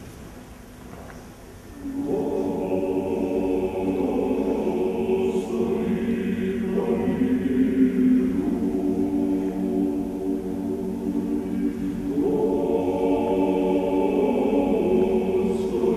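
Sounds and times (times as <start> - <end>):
male choir singing a cappella: 1.8 - 15.9.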